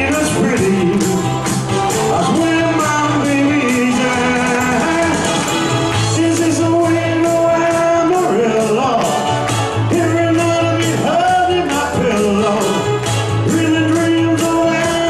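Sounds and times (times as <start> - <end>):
man singing into a microphone: 0.0 - 15.0
upbeat band playing: 0.0 - 15.0.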